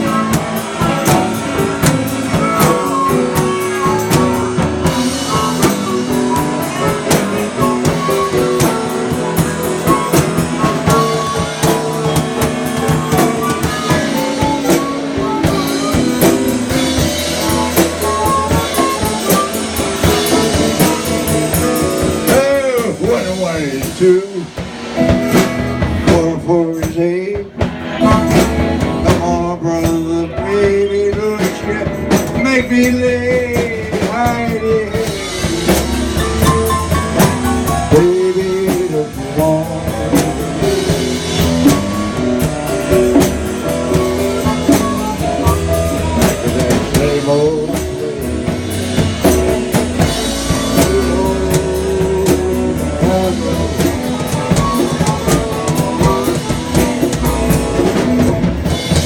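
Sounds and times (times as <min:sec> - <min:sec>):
person singing: 0:00.0 - 0:24.9, 0:26.0 - 0:59.0
blues-rock band playing: 0:00.0 - 0:59.0.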